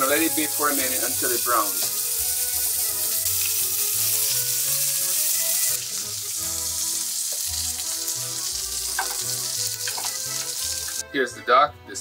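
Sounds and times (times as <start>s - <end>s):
meat sizzling in a skillet: 0.0s - 11.1s.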